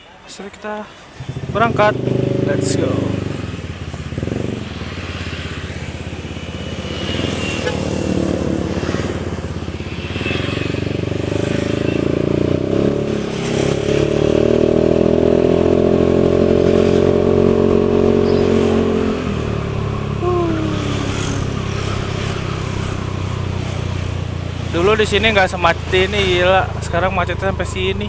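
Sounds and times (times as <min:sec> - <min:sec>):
scooter engine revving: 0:01.2 - 0:28.0.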